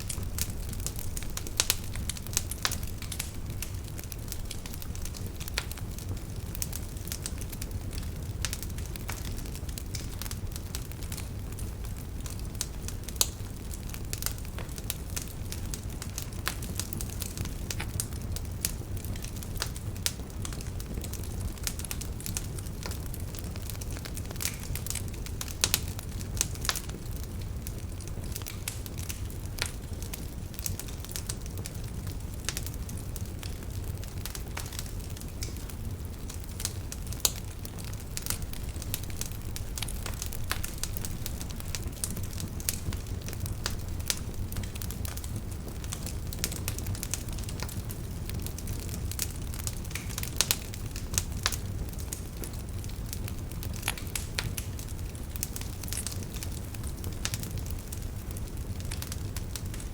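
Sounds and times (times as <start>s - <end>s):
fireplace wood crackling: 0.0s - 59.9s
low rumble of flames: 0.0s - 59.9s.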